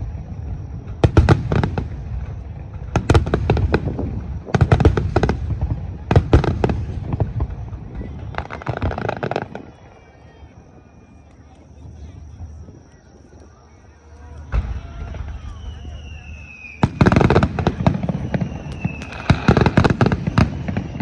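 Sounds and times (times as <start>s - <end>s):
fireworks crackling bangs: 0.0s - 21.0s.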